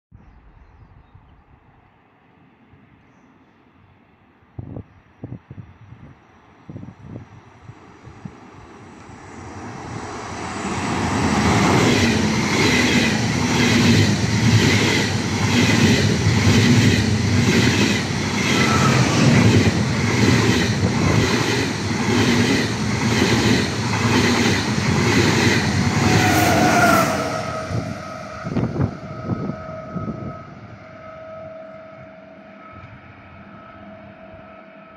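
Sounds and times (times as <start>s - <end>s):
train passing at speed: 6.1s - 34.9s.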